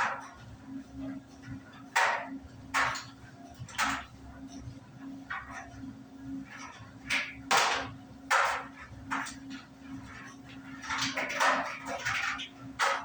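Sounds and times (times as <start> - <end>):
clothes dryer motor hum: 0.0 - 13.0.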